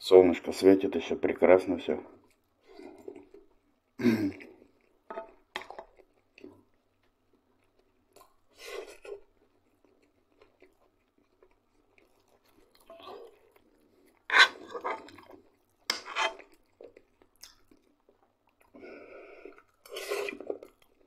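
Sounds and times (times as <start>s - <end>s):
man chewing food: 2.1s - 21.0s.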